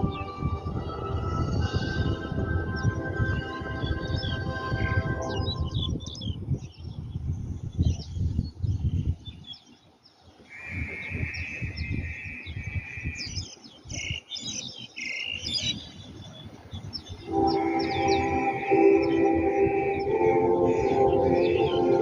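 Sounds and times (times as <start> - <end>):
birds chirping and twittering: 0.0 - 22.0.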